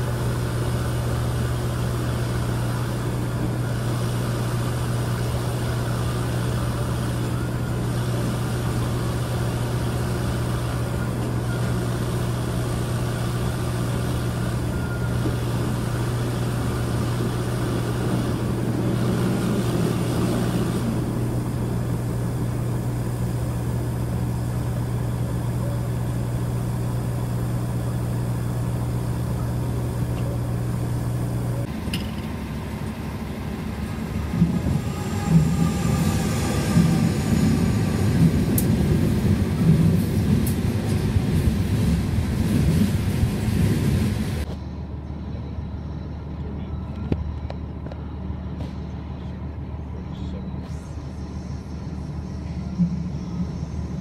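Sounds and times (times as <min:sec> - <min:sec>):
diesel engine hum: 0:00.0 - 0:54.0
freight train wheels rumbling: 0:00.0 - 0:54.0.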